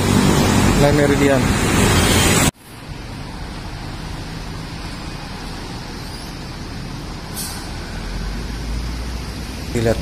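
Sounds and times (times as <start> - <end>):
cars passing: 0.0 - 10.0
city bus running: 0.0 - 10.0.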